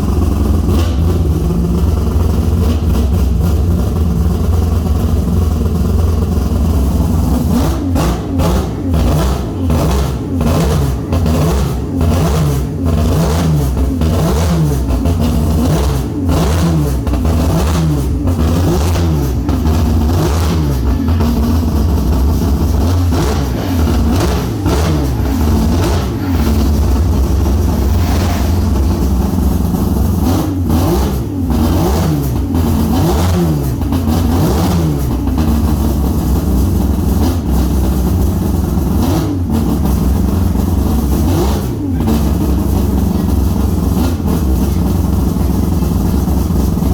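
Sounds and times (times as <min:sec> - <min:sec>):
rotary engine revving: 0:07.0 - 0:46.8.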